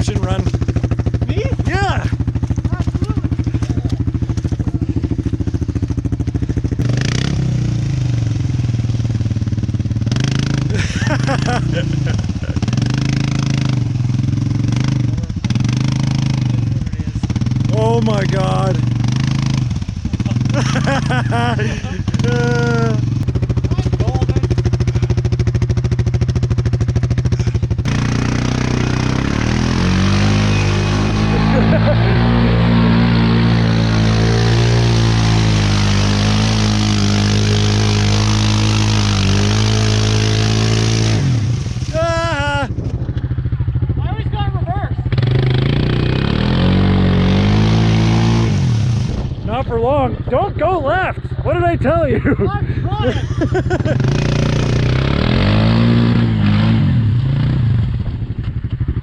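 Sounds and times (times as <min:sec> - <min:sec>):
quad engine idling and revving: 0:00.0 - 0:59.0.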